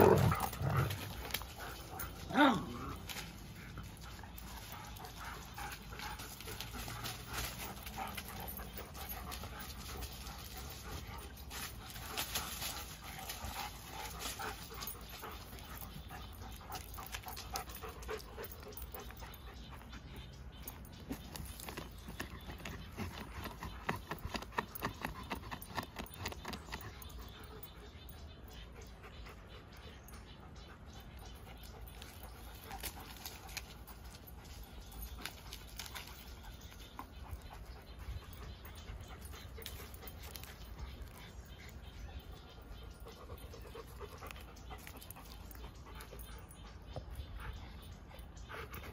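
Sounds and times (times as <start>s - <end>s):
dogs panting: 0.0s - 48.9s.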